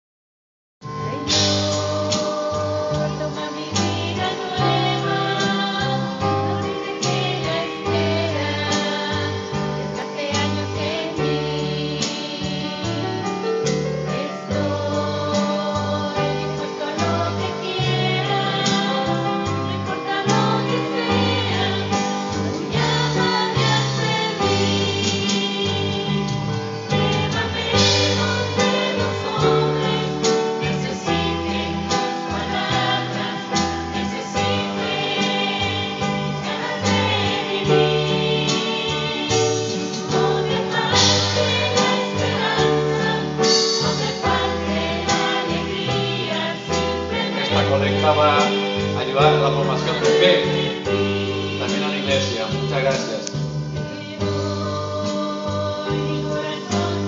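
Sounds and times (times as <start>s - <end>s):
guitar: 0.8s - 57.0s
keyboard: 0.8s - 57.0s
choir singing a hymn: 0.9s - 57.0s.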